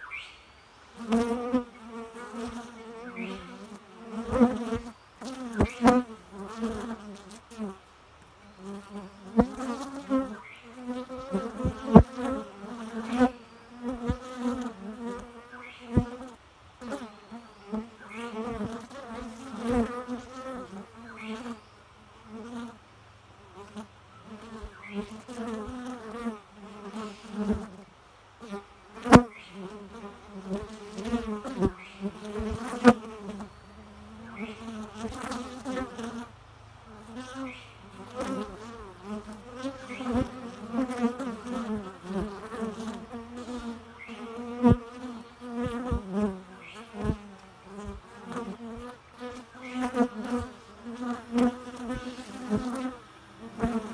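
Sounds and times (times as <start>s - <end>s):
bees buzzing: 0.9s - 7.8s, 8.4s - 22.8s, 23.5s - 53.9s.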